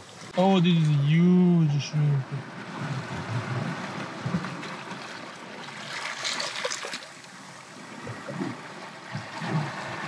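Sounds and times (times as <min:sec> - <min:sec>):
water splashing: 0:00.0 - 0:10.0
water trickling and sloshing: 0:00.0 - 0:10.0.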